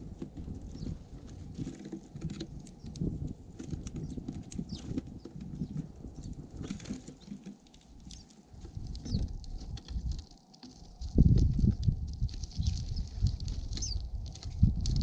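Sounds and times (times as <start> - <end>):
birds pecking and hopping: 0.0 - 15.0.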